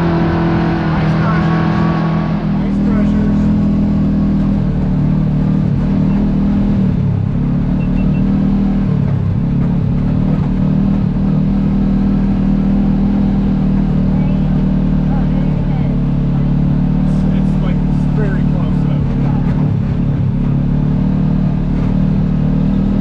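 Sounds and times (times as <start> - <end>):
utility vehicle engine running: 0.0 - 23.0.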